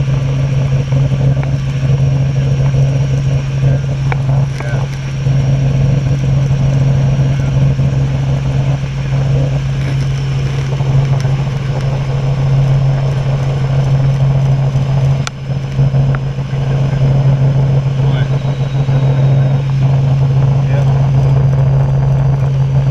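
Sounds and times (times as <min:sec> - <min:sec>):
helicopter engine and rotors droning: 0:00.0 - 0:22.9.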